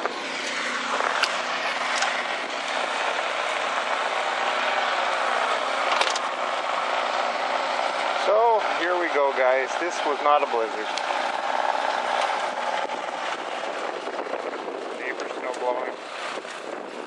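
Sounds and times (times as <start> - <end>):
snowblower running: 0.0 - 17.0.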